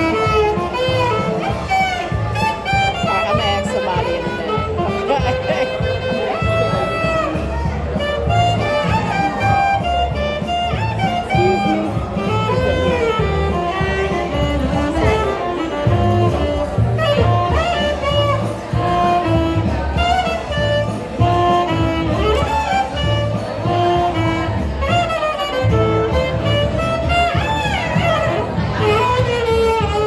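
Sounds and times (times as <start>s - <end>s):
jazz melody of held notes: 0.0s - 30.0s
walking bass: 0.0s - 30.0s.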